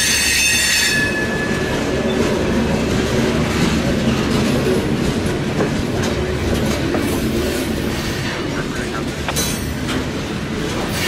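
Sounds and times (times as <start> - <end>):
train wheels rumbling on rail: 0.0 - 11.0
wheels clicking over rail joints: 0.2 - 11.0.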